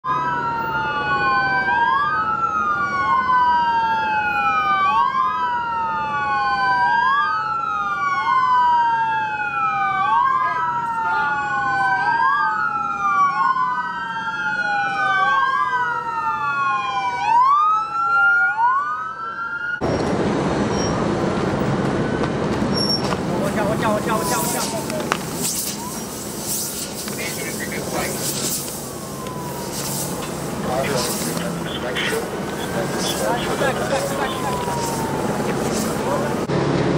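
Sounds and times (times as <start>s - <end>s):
police sirens wailing: 0.0s - 36.9s
street traffic noise: 0.0s - 36.9s.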